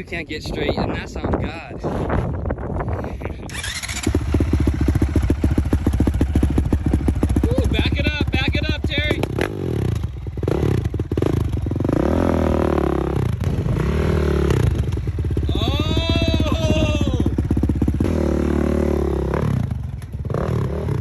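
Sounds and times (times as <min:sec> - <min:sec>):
dirt bike engine revving: 0:03.5 - 0:21.0.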